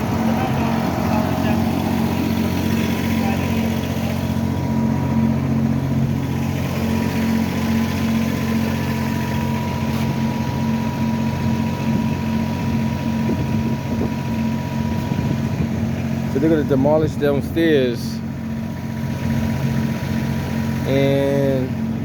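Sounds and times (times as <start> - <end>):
engine idling with whine: 0.0 - 22.0.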